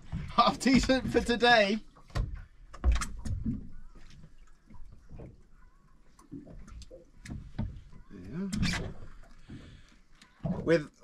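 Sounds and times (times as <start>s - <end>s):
water dripping: 0.0s - 11.0s
water splashes: 0.0s - 11.0s.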